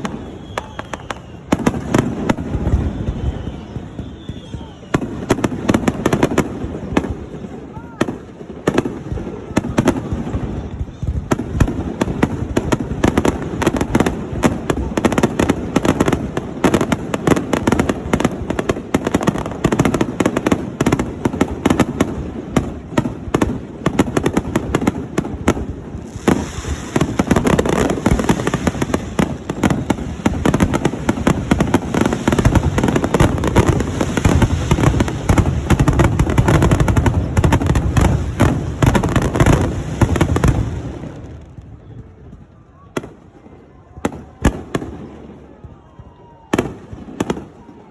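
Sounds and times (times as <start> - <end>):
fireworks bursting and crackling: 0.0 - 47.9.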